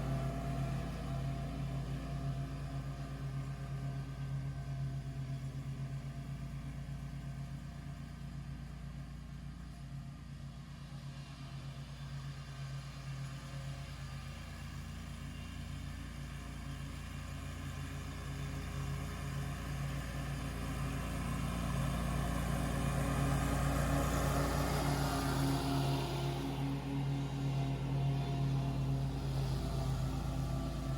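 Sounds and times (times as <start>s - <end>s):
mower engine running: 0.0s - 30.9s.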